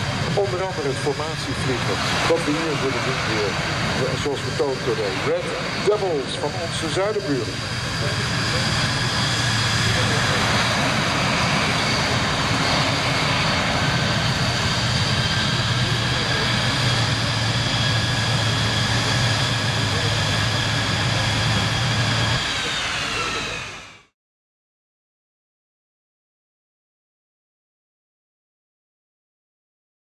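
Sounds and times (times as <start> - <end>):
jet engine roar with whine: 0.0 - 24.2.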